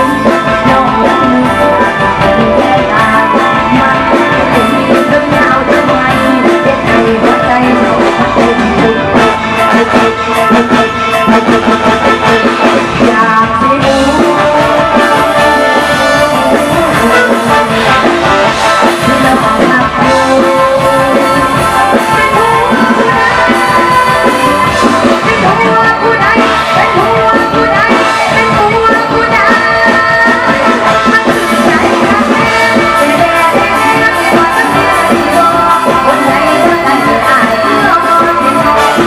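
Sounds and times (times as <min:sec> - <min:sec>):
drum kit: 0:00.0 - 0:39.0
live band music: 0:00.0 - 0:39.0
person singing: 0:00.0 - 0:39.0.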